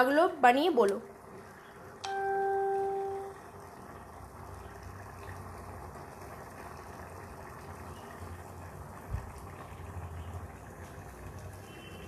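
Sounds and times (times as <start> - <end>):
thick stew bubbling in a pan: 0.0 - 12.0.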